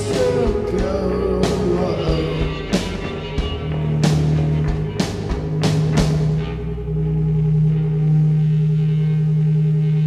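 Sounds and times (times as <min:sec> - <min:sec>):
live psychedelic rock music: 0:00.0 - 0:10.0.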